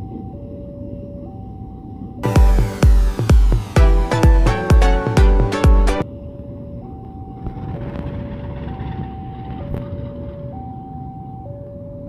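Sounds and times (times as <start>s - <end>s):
level-crossing two-tone alarm: 0.0s - 12.0s.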